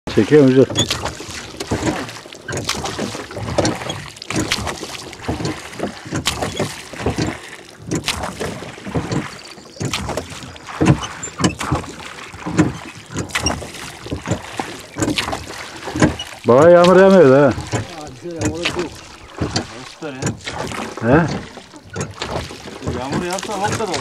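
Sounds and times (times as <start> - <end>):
water splashing against boat hull: 0.1 - 24.0.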